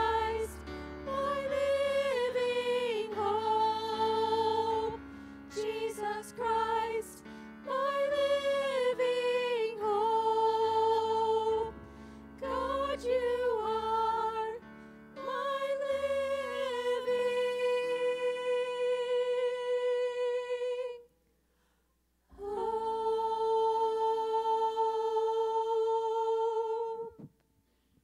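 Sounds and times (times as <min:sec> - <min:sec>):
women singing held notes: 0:00.0 - 0:21.1, 0:22.3 - 0:27.4.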